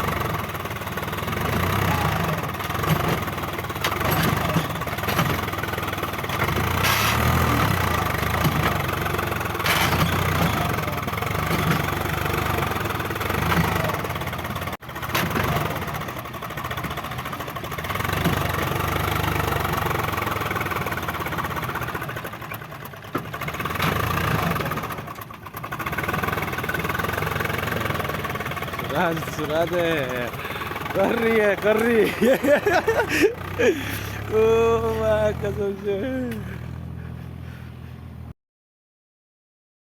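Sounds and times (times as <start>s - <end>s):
tractor diesel engine running: 0.0s - 38.3s.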